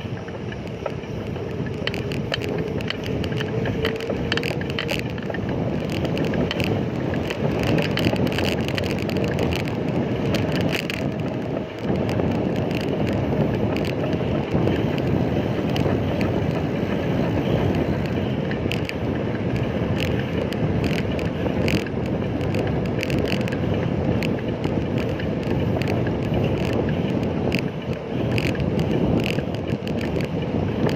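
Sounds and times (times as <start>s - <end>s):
bicycle clicks and rattles: 0.0s - 30.9s
road noise: 0.0s - 30.9s
wind rushing over microphone: 0.0s - 30.9s.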